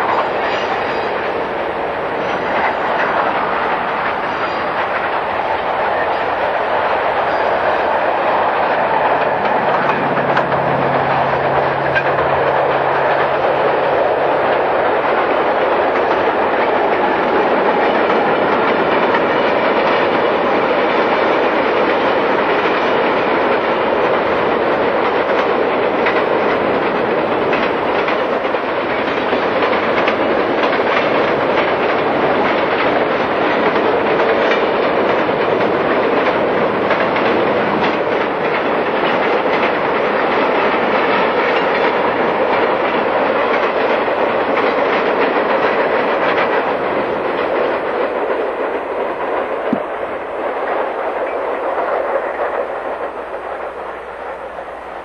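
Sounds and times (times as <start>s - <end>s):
wheels clicking over rail joints: 0.0s - 54.9s
locomotive hum: 0.0s - 55.0s
train wheels rushing on rail: 0.0s - 55.0s.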